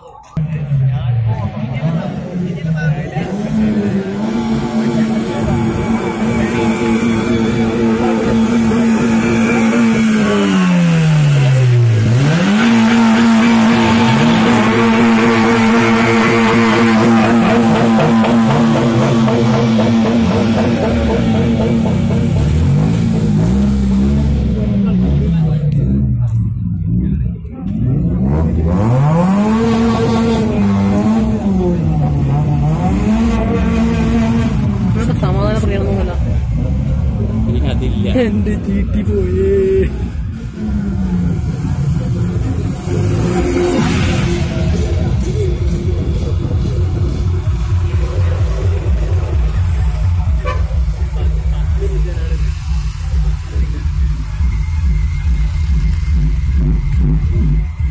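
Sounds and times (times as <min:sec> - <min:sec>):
engine revving: 0:00.4 - 0:57.9.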